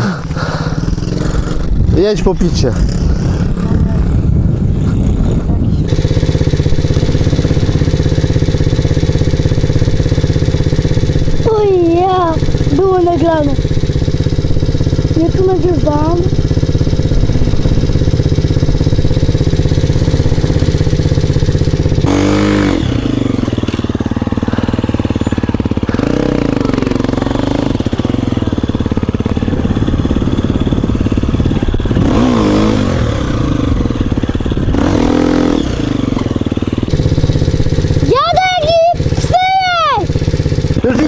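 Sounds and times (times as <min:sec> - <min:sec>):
dirt bike engine revving: 0:00.0 - 0:41.0
low engine rumble: 0:00.0 - 0:41.0.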